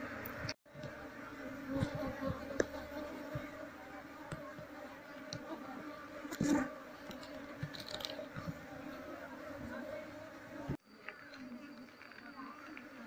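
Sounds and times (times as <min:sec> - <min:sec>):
honeybee colony buzzing: 0:00.0 - 0:13.0.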